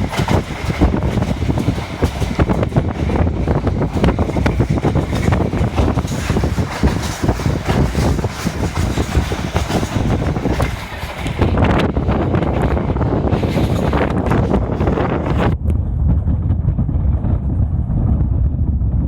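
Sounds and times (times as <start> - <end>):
train carriage rumbling and clattering: 0.0 - 19.0
wind buffeting microphone: 0.0 - 19.0.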